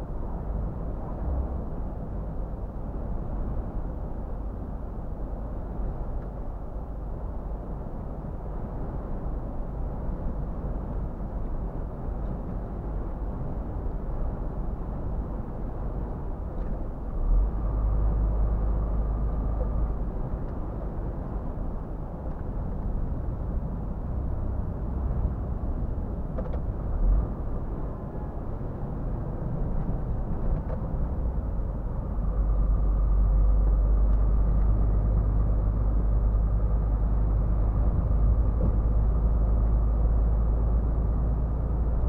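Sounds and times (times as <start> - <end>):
truck engine and road rumble: 0.0 - 42.0.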